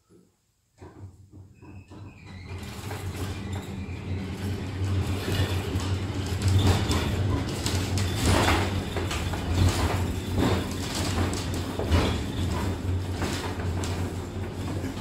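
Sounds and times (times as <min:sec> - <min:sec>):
funicular car rumbling on rails: 0:01.9 - 0:15.0.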